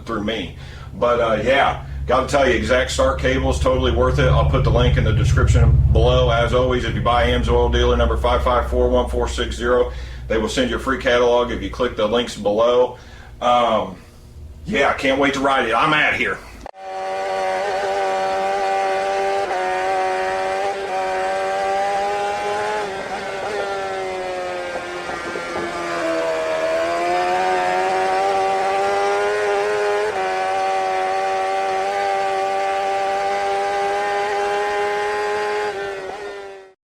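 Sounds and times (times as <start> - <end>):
motorcycle engine running: 0.4 - 10.9, 16.9 - 36.8.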